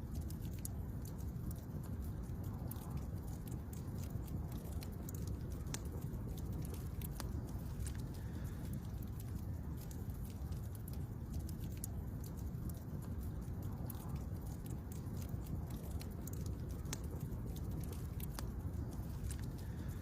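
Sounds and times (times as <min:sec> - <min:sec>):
campfire flames rumbling: 0:00.0 - 0:20.0
fire crackles and pops: 0:00.0 - 0:20.0.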